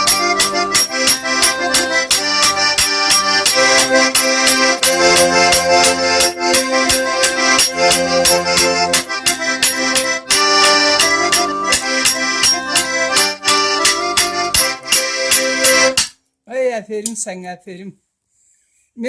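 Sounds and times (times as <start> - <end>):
accordion dance tune: 0.0 - 16.1.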